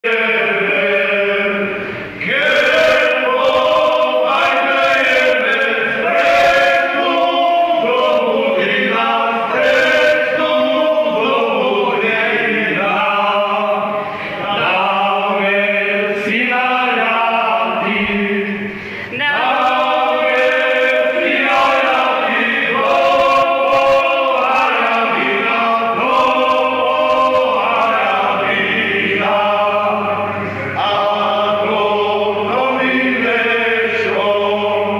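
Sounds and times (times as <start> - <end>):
folk choir singing: 0.0 - 34.9.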